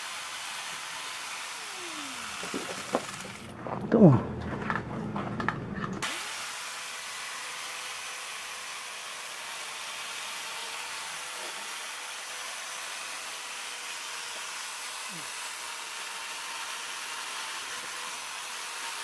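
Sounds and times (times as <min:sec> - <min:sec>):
electric chainsaw running: 0:00.0 - 0:03.5, 0:06.0 - 0:19.0.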